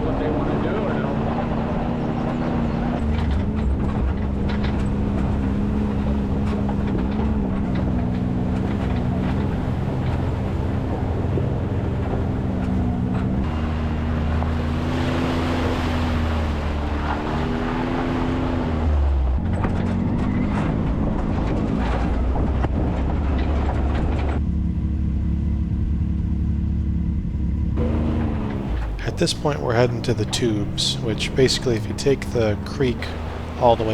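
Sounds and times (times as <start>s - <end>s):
vehicle engine revving: 0.0s - 24.5s, 25.1s - 33.9s.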